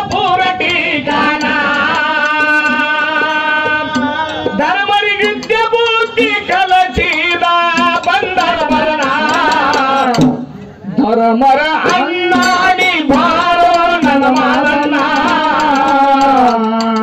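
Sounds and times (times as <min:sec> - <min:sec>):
hand drum strokes: 0:00.0 - 0:10.7, 0:11.8 - 0:17.0
man singing folk song: 0:00.0 - 0:17.0.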